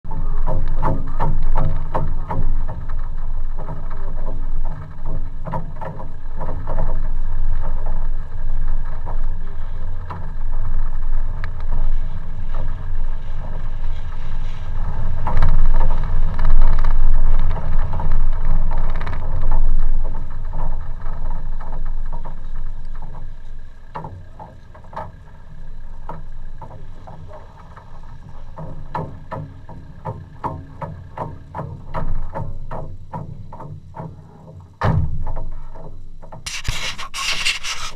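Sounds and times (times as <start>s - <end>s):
engine and wind rumble: 0.0s - 36.4s
knocks and rattles from bumps: 0.1s - 10.8s, 15.2s - 36.5s.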